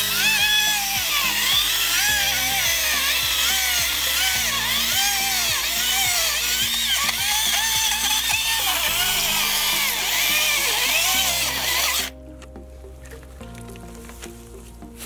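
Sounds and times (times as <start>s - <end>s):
chainsaw cutting a log: 0.0s - 12.2s
background music: 0.0s - 15.0s.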